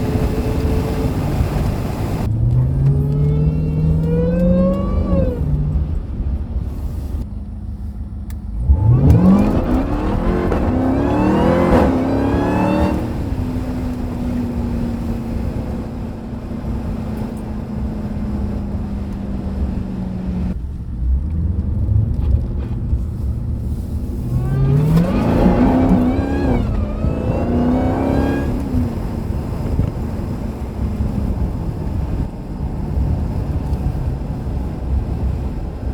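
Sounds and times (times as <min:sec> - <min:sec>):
car engine accelerating hard: 0:00.0 - 0:35.9
supercharger whine: 0:00.0 - 0:35.9.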